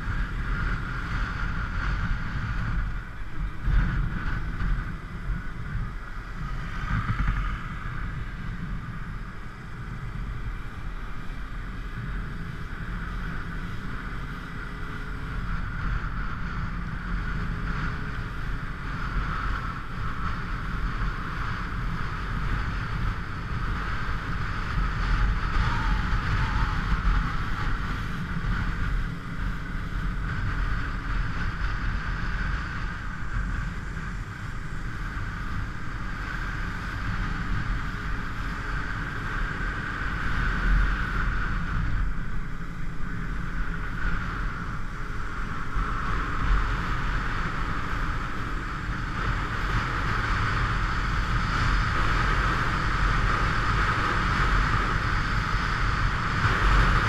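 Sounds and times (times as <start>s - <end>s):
motorcycle engine: 0.0s - 57.0s
road noise: 0.0s - 57.0s
wind rushing over microphone: 0.0s - 57.0s.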